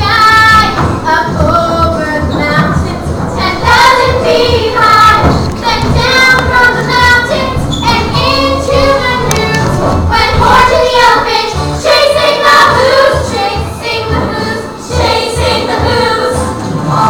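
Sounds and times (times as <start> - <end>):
children singing in chorus: 0.0 - 17.0
music with steady beat: 0.0 - 17.0.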